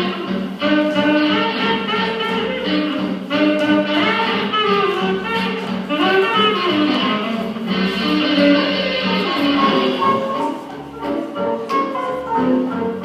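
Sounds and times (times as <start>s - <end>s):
swing jazz with horns: 0.0s - 13.0s.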